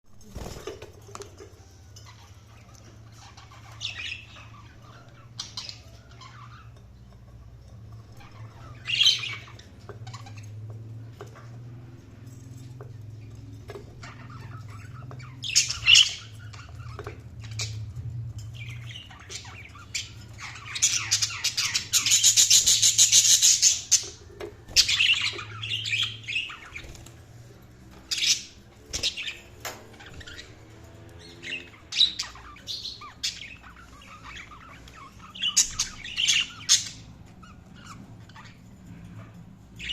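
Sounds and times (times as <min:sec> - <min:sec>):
budgies chirping and squawking: 0:00.2 - 0:39.9.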